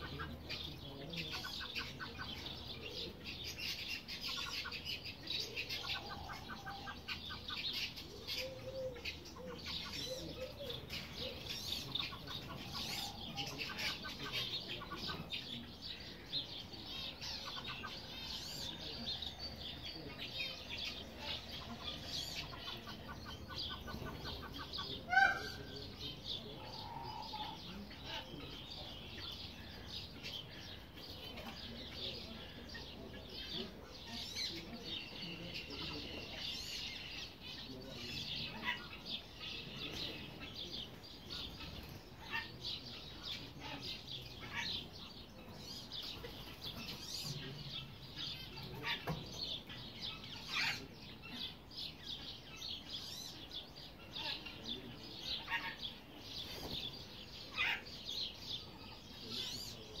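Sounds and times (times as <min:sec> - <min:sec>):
birds chirping and peeping: 0:00.0 - 1:00.0.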